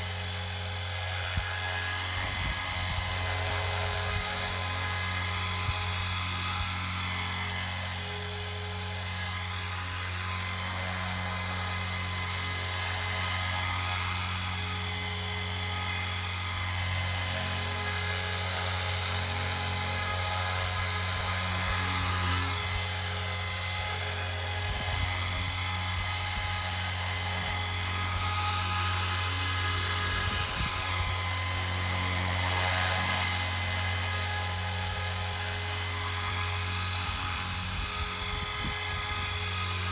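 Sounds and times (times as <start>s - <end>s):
high-pitched whine: 0.0s - 39.9s
model helicopter rotor hum: 0.0s - 39.9s.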